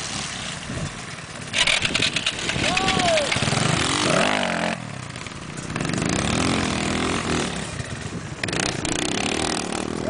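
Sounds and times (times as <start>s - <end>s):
dirt bike engine revving: 1.4s - 10.0s.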